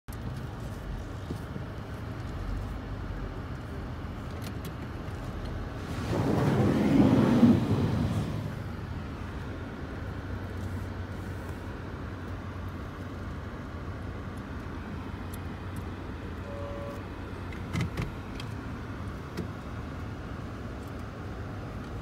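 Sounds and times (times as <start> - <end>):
car engine humming: 0.1 - 22.0.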